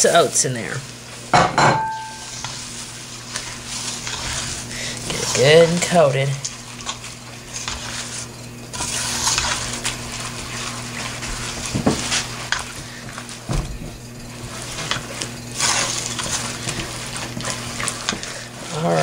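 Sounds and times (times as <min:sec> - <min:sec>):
spoon stirring thick mix in pot: 0:01.8 - 0:19.0.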